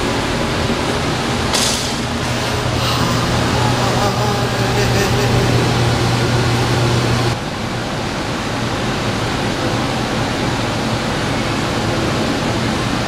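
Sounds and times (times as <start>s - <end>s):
loud rushing air noise: 0.0s - 13.0s
low hum: 0.0s - 13.0s.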